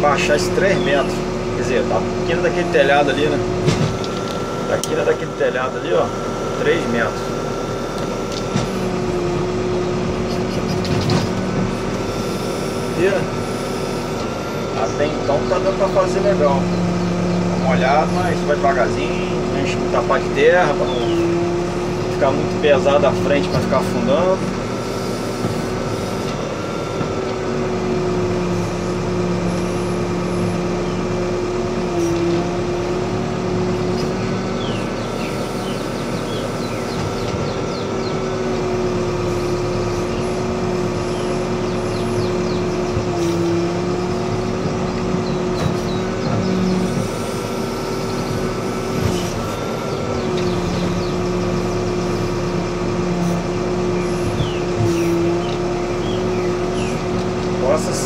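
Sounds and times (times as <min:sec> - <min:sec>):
diesel engine under load: 0:00.0 - 0:58.0
hydraulic whine: 0:00.0 - 0:58.0.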